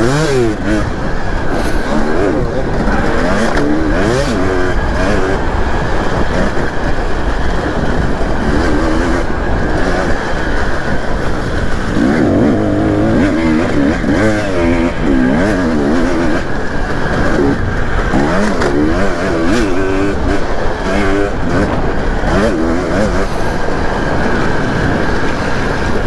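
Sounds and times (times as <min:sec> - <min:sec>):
dirt bike engine revving: 0:00.0 - 0:26.0
wind rumble on microphone: 0:00.0 - 0:26.0.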